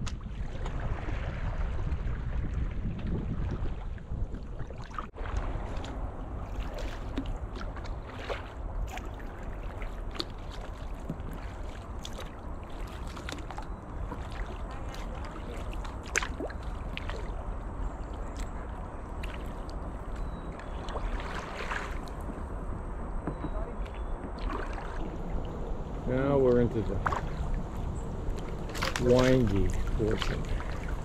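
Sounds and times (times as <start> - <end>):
paddle splashes and drips: 0.0 - 22.5, 23.3 - 25.6, 26.4 - 31.0
low steady rumble: 0.0 - 31.0.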